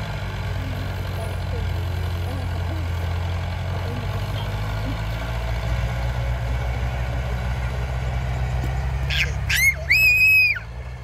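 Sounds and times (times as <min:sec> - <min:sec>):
diesel engines droning: 0:00.0 - 0:11.0.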